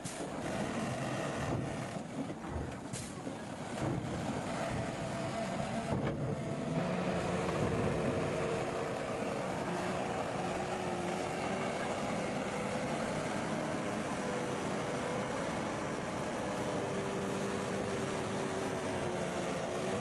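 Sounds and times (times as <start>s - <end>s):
construction machinery engine running: 0.0s - 20.0s.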